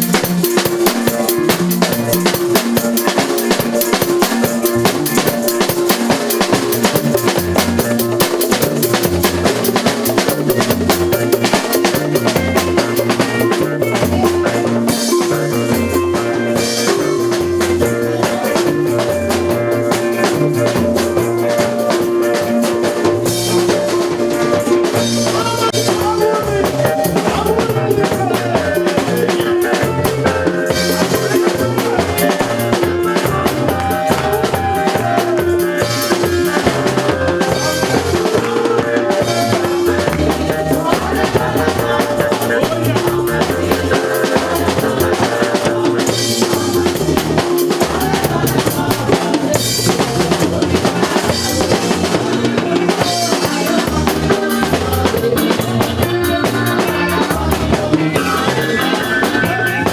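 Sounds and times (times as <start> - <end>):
music with drum beat: 0.0 - 59.9.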